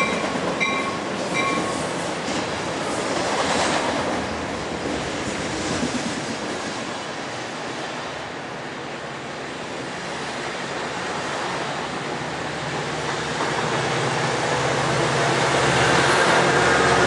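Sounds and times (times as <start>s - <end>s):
train cars rolling past: 0.0s - 17.0s.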